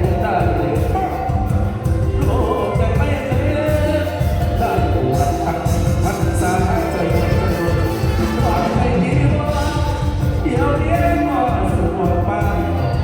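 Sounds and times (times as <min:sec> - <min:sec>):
band music with heavy bass beat: 0:00.0 - 0:13.0
wavering melody: 0:00.0 - 0:13.0.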